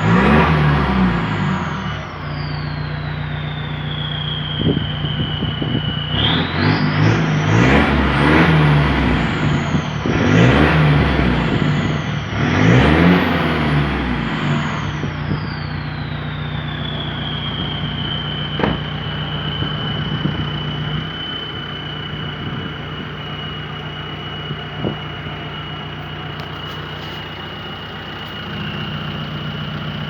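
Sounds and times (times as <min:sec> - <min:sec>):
engine idling: 0:00.0 - 0:30.0
high turbo whistle: 0:00.0 - 0:30.0.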